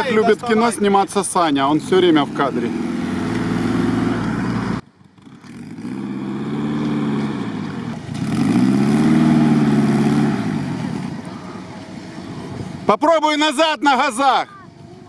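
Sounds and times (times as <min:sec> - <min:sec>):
engine revving: 0:00.0 - 0:12.8.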